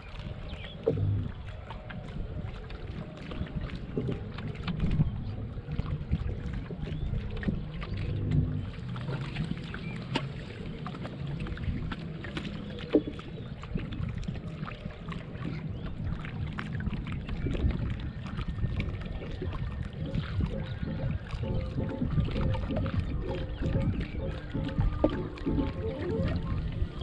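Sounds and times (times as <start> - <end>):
oar strokes and splashes: 0.0 - 27.0
wind rumble on microphone: 0.0 - 27.0.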